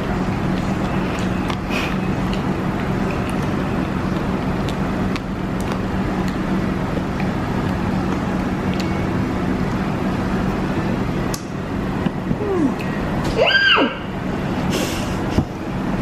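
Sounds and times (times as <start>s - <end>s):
constant rumble: 0.0s - 16.0s
low mechanical hum: 0.0s - 16.0s.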